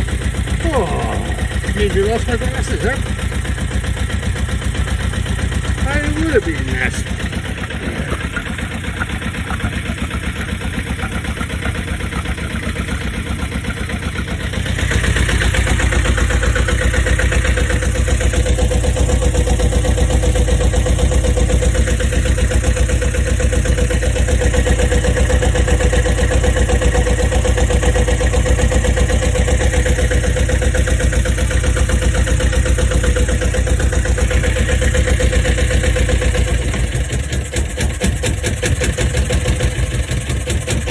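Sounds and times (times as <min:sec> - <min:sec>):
marine diesel engine running: 0:00.0 - 0:40.9.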